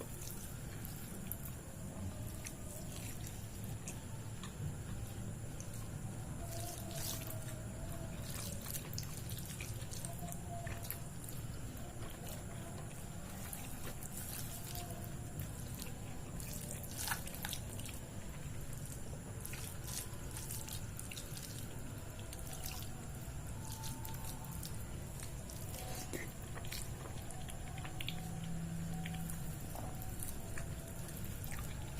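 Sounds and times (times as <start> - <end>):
wet chewing: 0.0 - 31.9.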